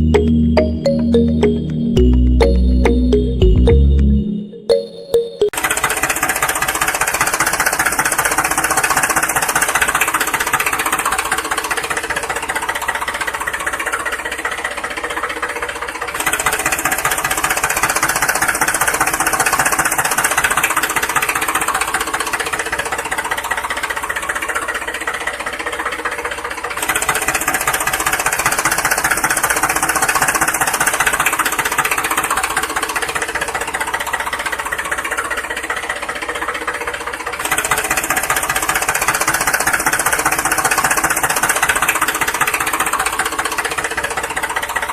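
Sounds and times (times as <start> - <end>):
small motor with rattling knock: 5.6 - 15.1, 16.0 - 44.9.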